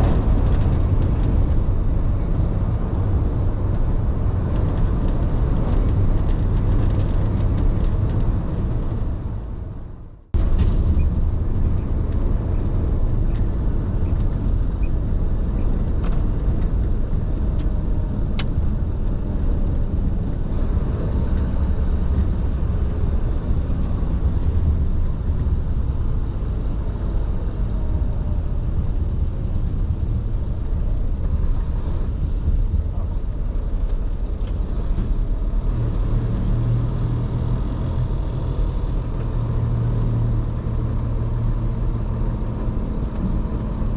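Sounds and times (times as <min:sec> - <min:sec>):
truck engine and road rumble: 0:00.0 - 0:43.9.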